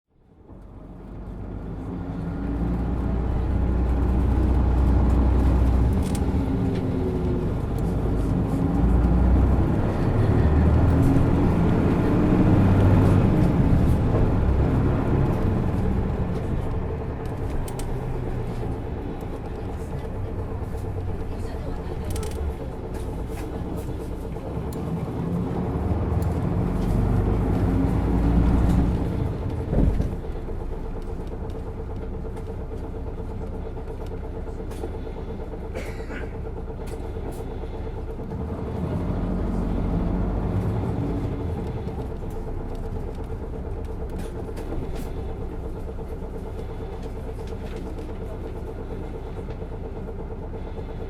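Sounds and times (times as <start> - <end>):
bus diesel engine: 0.1 - 51.0.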